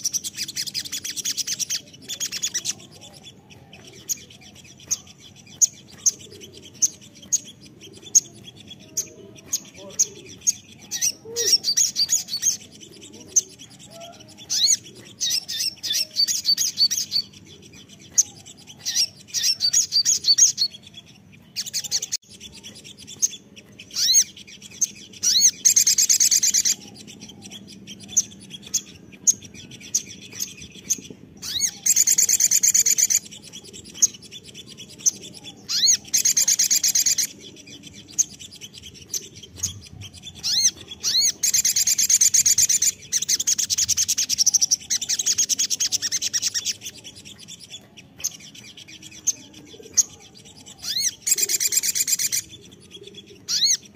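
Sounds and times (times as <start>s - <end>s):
sunbird chirps and trills: 0.0s - 53.9s.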